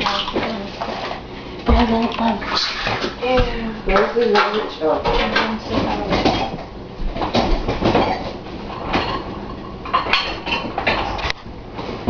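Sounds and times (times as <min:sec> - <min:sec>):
kitchen utensils and dishes clattering: 0:00.0 - 0:11.3.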